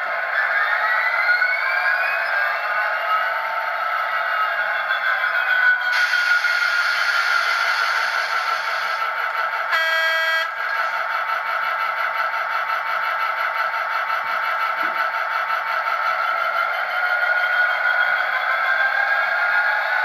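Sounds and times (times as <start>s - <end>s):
diesel engine sound from small speaker: 0.0s - 20.0s.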